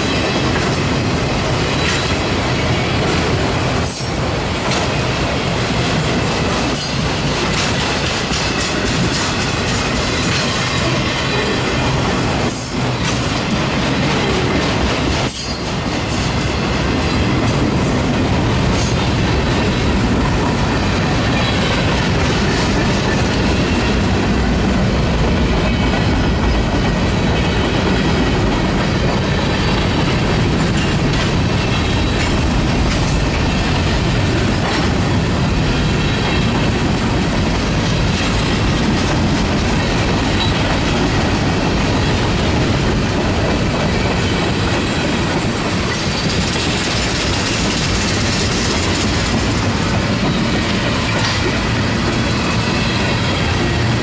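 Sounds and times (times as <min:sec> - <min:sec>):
freight train rumble and clatter: 0:00.0 - 0:54.0.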